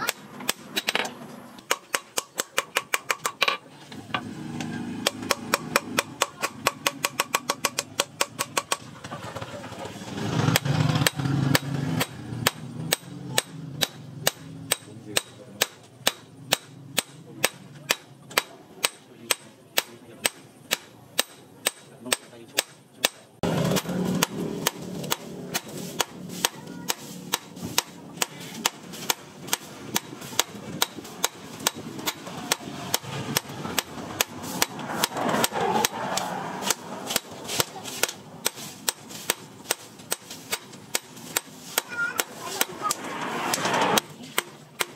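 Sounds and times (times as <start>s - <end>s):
hammer striking steel on anvil: 5.0s - 8.9s, 10.5s - 44.9s.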